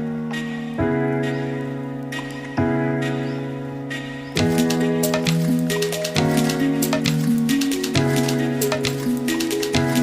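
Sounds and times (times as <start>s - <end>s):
sustained music tones: 0.0s - 10.0s.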